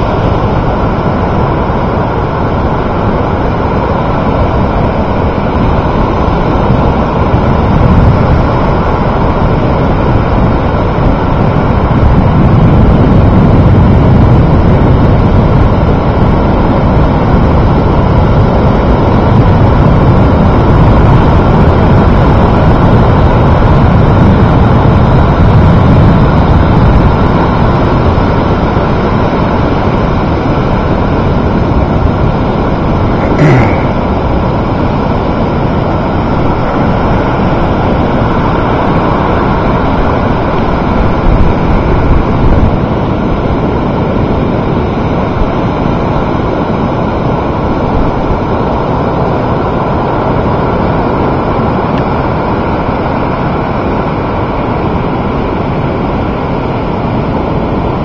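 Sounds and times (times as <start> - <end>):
wind on microphone: 0.0 - 58.0.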